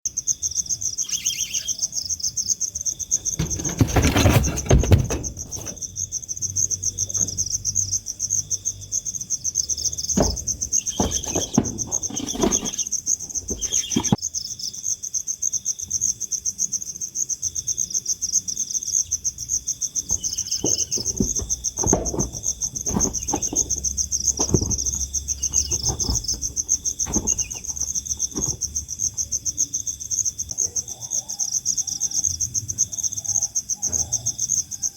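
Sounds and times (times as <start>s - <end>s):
crickets chirring: 0.1s - 34.9s.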